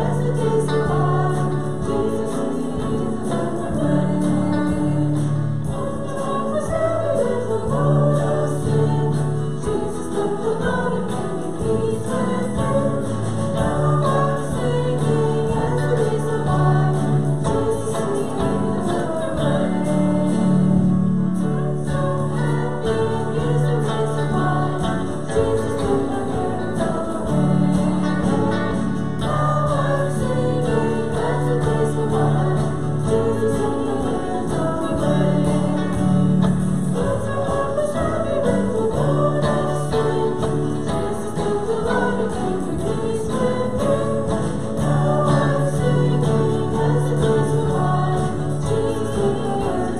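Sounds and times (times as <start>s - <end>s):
congregation singing a hymn: 0.0s - 49.9s
instrumental accompaniment: 0.0s - 49.9s.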